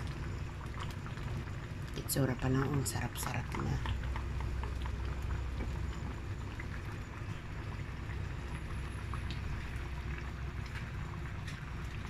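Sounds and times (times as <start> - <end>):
low steady hum: 0.0 - 12.0
soup boiling with bubbles: 0.0 - 12.0.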